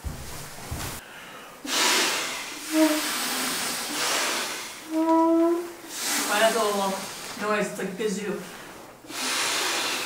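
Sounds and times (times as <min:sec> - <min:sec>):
air rushing into inflatable pads: 0:00.0 - 0:07.5, 0:08.7 - 0:10.0.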